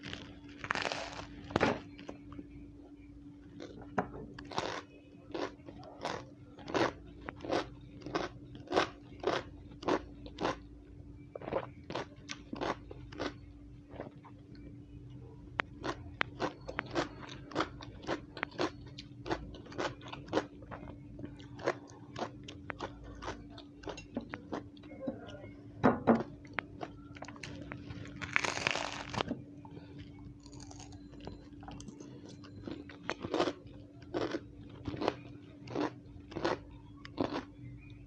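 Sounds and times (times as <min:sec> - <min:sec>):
crunchy vegetable being chewed: 0:00.0 - 0:02.3, 0:03.5 - 0:10.7, 0:11.3 - 0:14.6, 0:15.6 - 0:24.9, 0:26.4 - 0:37.9.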